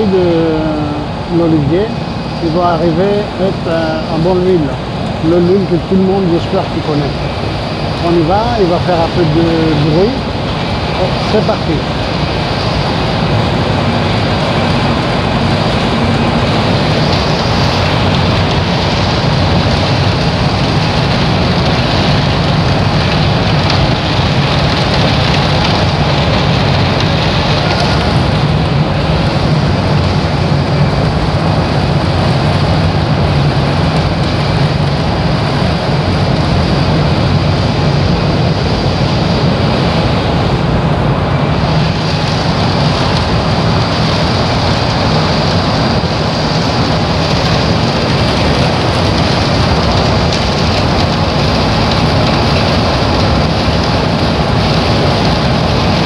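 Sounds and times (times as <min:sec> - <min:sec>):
conveyor machinery running: 0:00.0 - 0:56.0
low machine hum: 0:00.0 - 0:56.0.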